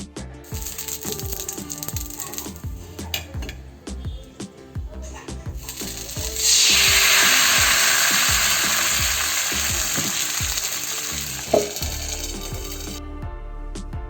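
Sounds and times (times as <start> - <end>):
batter sizzling on a hot pan: 0.5 - 4.3, 4.9 - 13.0.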